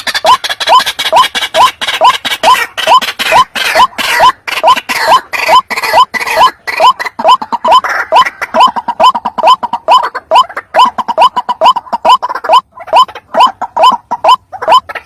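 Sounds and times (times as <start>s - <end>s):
waterhen croaking calls: 0.0s - 15.0s.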